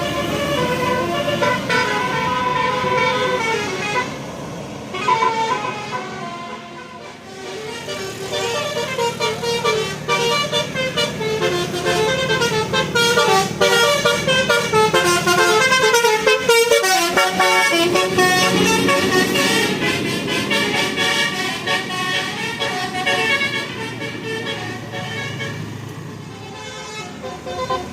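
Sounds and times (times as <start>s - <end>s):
multi-tone bus horn tune: 0.0s - 27.9s.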